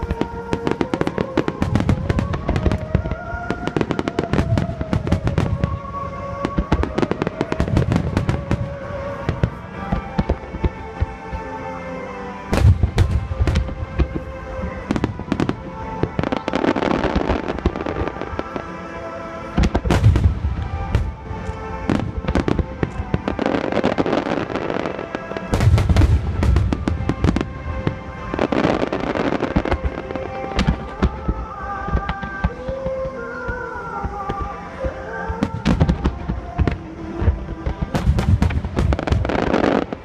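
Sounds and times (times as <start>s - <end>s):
deep fireworks booms: 0.0s - 11.4s, 12.5s - 18.6s, 19.6s - 40.0s
fireworks bursting and crackling: 0.0s - 40.0s
music playing: 0.0s - 40.0s.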